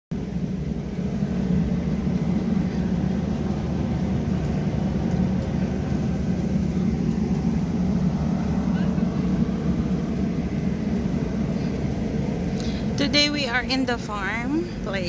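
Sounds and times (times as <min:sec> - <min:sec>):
low engine drone: 0:00.1 - 0:15.0.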